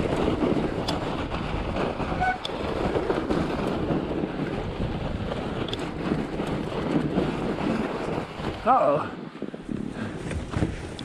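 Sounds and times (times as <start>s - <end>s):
bike tyres on packed snow: 0.0s - 11.0s
wind noise on microphone: 0.0s - 11.0s.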